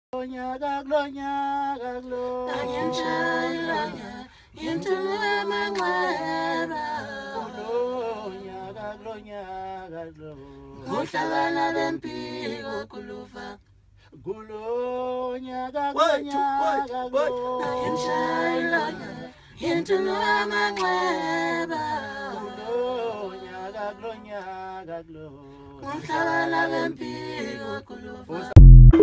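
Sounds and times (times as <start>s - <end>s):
men singing a cappella: 0.2s - 28.6s.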